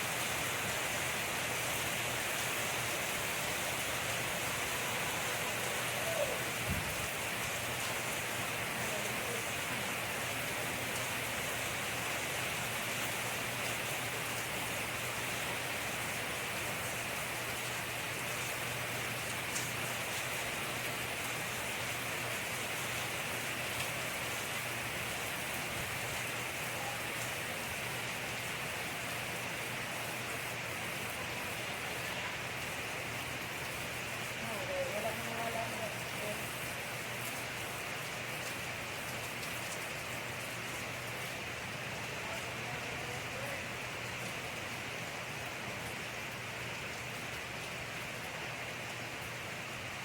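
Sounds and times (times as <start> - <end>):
rain falling: 0.0 - 50.0.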